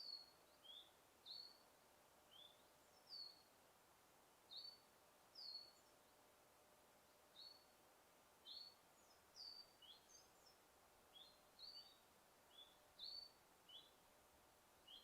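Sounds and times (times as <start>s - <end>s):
small birds chirping: 0.0s - 3.6s, 4.4s - 6.3s, 7.0s - 7.8s, 8.4s - 14.1s, 14.7s - 15.0s
soft steady hiss: 0.0s - 15.0s.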